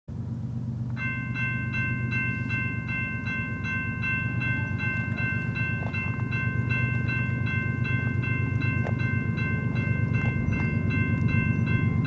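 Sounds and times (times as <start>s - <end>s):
low steady rumble: 0.1s - 12.0s
crossing bell ringing: 0.9s - 12.0s.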